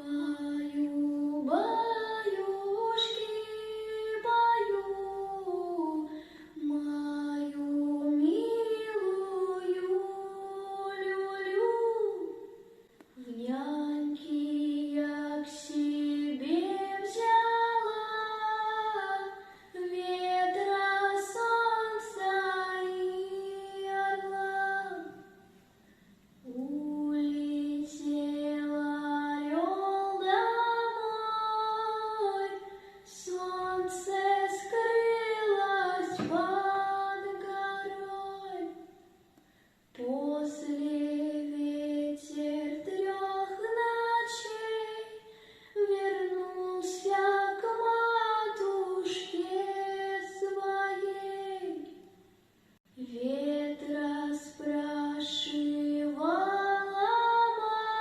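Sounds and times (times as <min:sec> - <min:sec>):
girl singing a lullaby: 0:00.0 - 0:25.5, 0:26.4 - 0:39.3, 0:39.9 - 0:52.2, 0:52.9 - 0:58.0.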